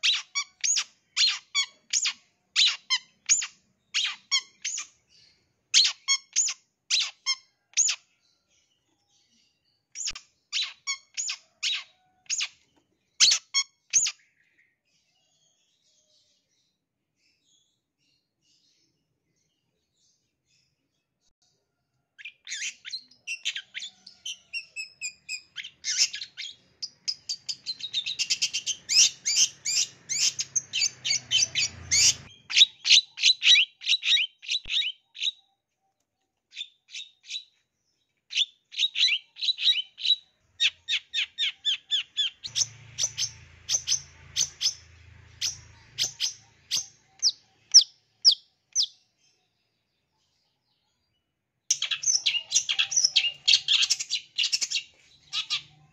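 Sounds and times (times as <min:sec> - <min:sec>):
bird singing high chirps: 0:00.0 - 0:20.8, 0:22.2 - 0:55.9.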